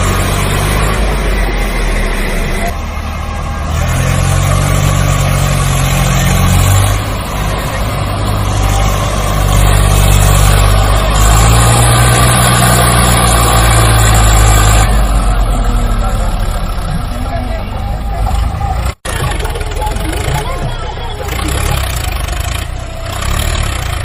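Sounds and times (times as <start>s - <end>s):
heavy engine droning: 0.0s - 24.0s.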